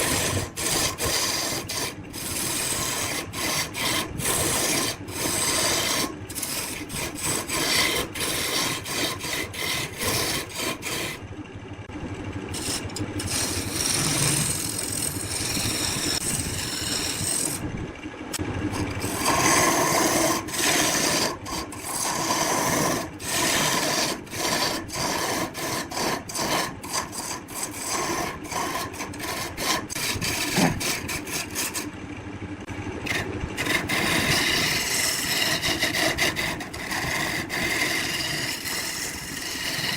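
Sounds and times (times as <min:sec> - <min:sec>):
woodturning tool scraping wood: 0:00.0 - 0:11.3, 0:12.5 - 0:17.7, 0:18.7 - 0:32.0, 0:33.0 - 0:39.9.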